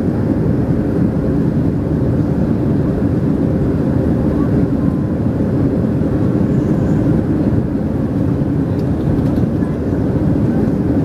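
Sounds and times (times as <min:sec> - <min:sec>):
airplane cabin engine drone: 0:00.0 - 0:11.0
rushing airflow: 0:00.0 - 0:11.0.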